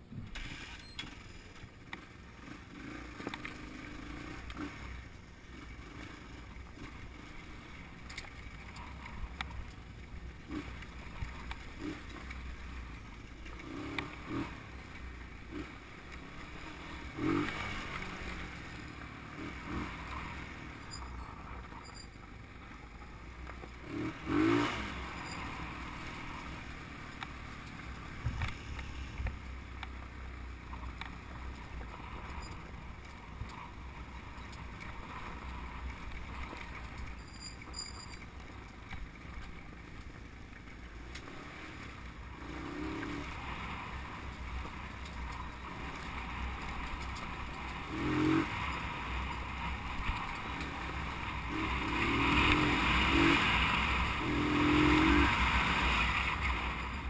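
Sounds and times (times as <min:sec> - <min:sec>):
motorcycle engine running: 0:00.3 - 0:57.0.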